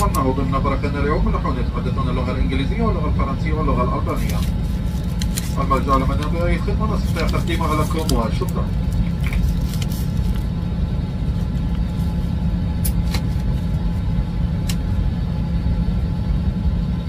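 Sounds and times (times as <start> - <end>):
airliner cabin rumble and hiss: 0.0 - 17.0
faint steady hum: 0.0 - 17.0.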